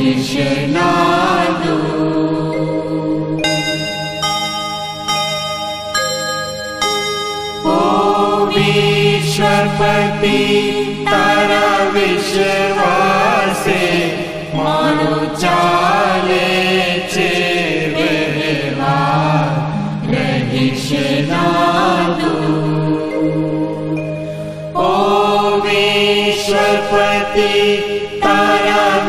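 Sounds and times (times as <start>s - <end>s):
voices singing a chant: 0.0s - 3.9s, 7.6s - 29.0s
steady drone: 0.0s - 29.0s.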